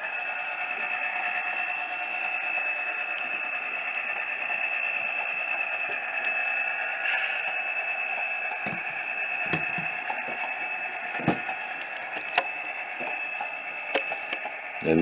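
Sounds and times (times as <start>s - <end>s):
model locomotive engine sound: 0.0s - 15.0s.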